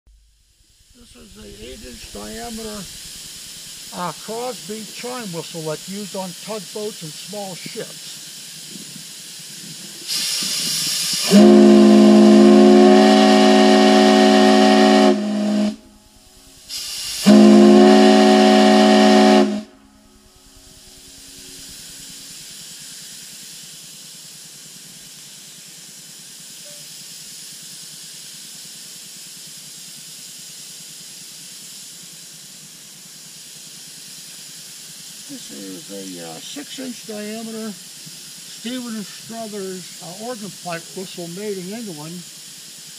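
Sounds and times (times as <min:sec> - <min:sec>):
air hiss: 0:00.2 - 0:42.9.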